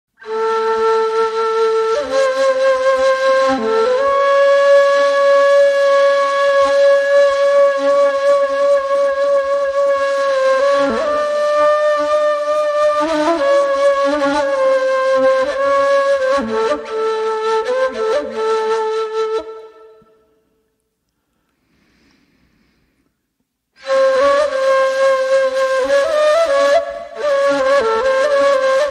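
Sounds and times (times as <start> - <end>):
breathy reed flute playing: 0.2 - 20.6, 23.8 - 28.9.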